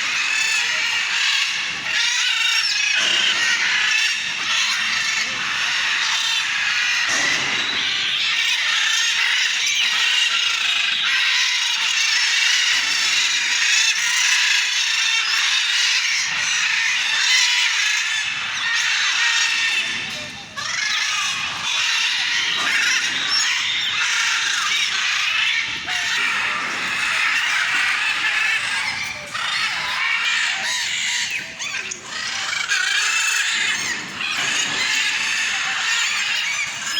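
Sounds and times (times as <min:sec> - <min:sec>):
birds chirping and chattering: 0:00.0 - 0:36.9.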